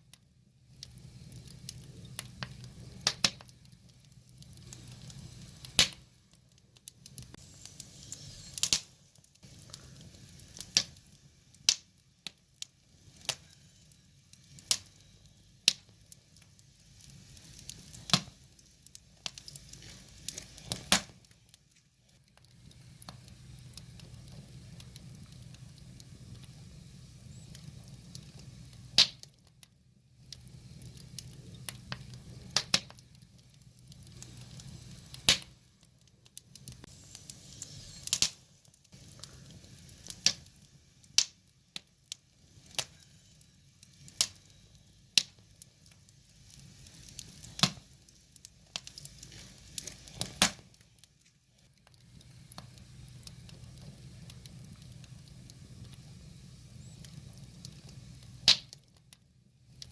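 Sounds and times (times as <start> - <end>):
firewood crackling and popping: 0.0 - 59.9
flames rushing: 0.7 - 29.3, 30.2 - 58.8.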